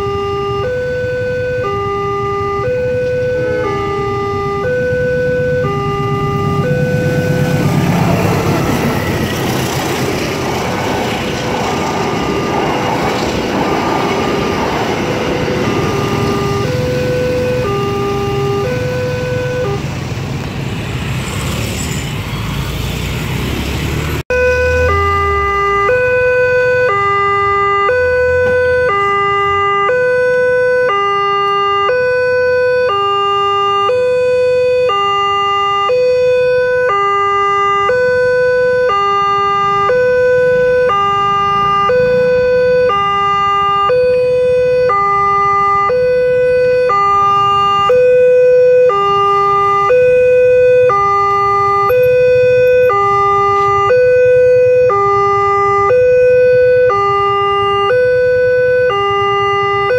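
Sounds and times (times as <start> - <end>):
motorcycle traffic: 0.0 - 59.9.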